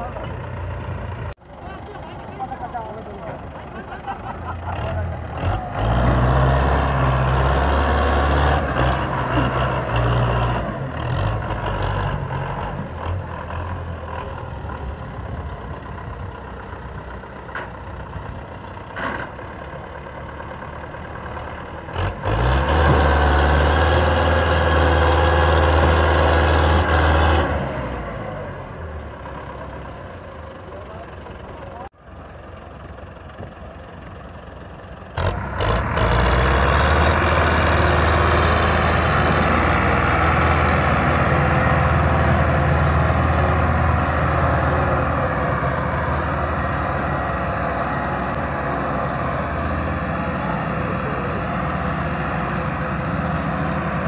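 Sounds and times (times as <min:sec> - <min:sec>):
tractor diesel engine straining: 0:00.0 - 0:54.0.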